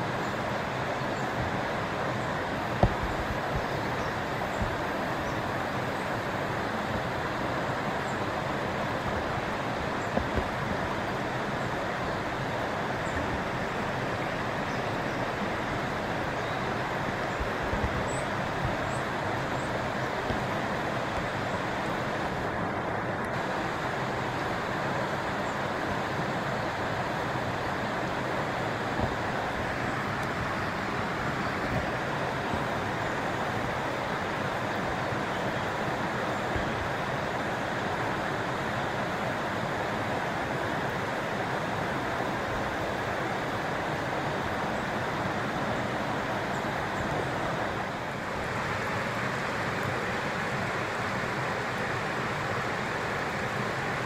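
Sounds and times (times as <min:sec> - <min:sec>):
shallow stream rushing: 0:00.0 - 0:54.0.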